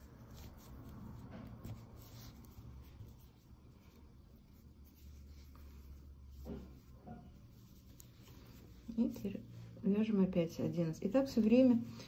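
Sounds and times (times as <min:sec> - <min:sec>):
yarn rustling: 0:00.0 - 0:12.0.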